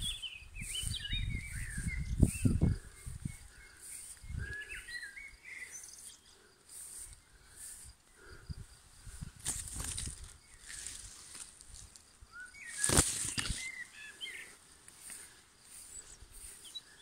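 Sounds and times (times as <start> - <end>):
insects chirping: 0.0 - 17.0
small birds chirping: 0.0 - 17.0.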